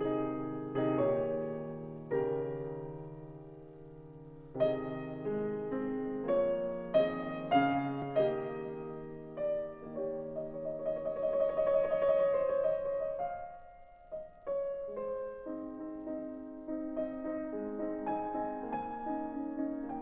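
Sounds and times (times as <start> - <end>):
slow solo piano chords: 0.0 - 20.0.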